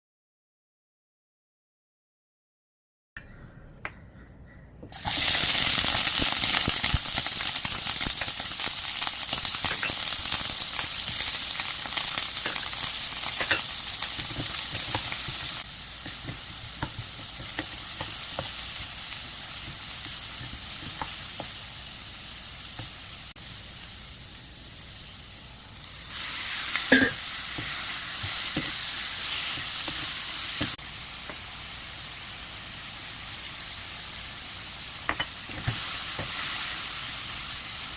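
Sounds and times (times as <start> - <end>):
food sizzling in hot oil: 5.0 - 37.9.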